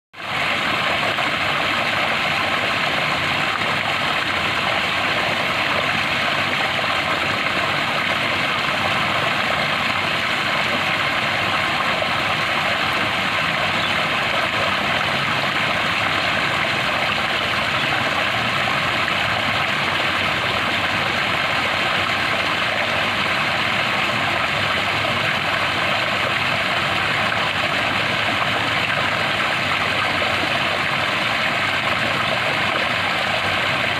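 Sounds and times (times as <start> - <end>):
flowing water: 0.2 - 33.9.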